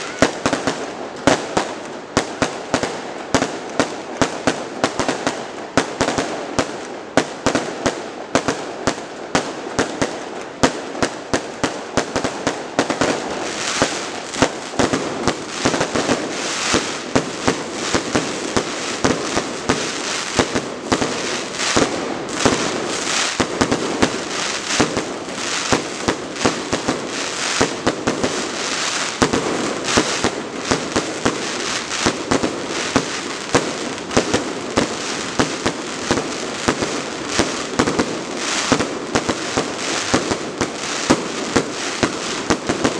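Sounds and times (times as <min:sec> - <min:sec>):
fireworks bangs: 0:00.0 - 0:42.9.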